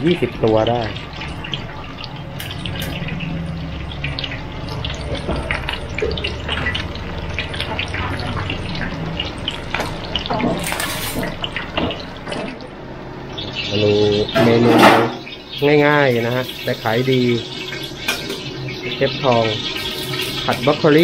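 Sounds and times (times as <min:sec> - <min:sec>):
fish deep-frying in oil: 0:00.0 - 0:21.0.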